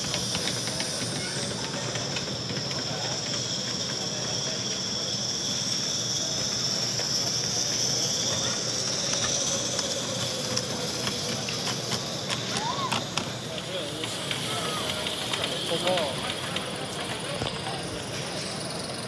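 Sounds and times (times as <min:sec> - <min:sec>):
hall chatter: 0:00.0 - 0:19.0
model steam locomotive hissing: 0:00.0 - 0:19.0
wagon wheels clicking on track: 0:00.0 - 0:19.0.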